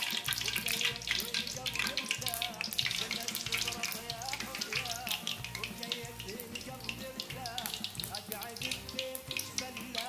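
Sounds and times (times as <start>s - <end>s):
background music: 0.0s - 10.0s
fish frying in hot oil: 0.0s - 10.0s.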